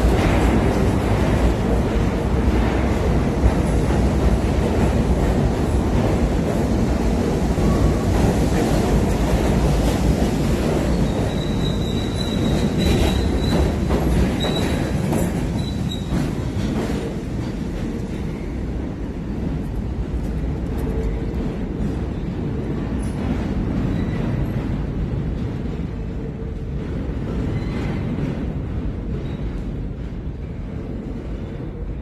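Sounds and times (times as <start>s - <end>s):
rail clicks: 0.0s - 31.8s
subway train rumbling on rails: 0.0s - 32.0s.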